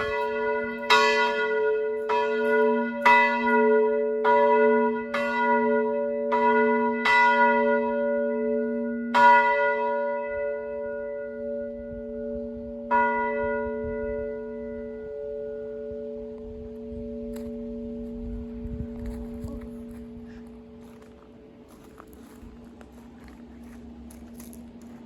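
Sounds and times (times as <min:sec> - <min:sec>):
church bell ringing: 0:00.0 - 0:25.0.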